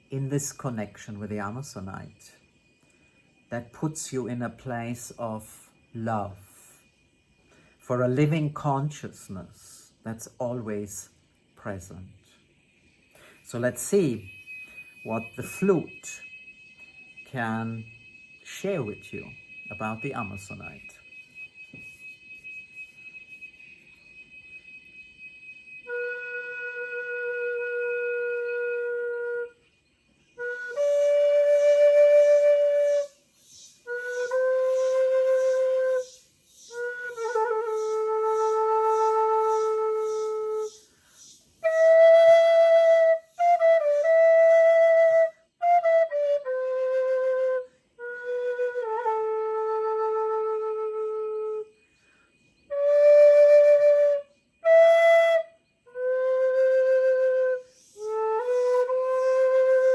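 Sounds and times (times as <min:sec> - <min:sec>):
solo flute: 0:00.0 - 0:59.9.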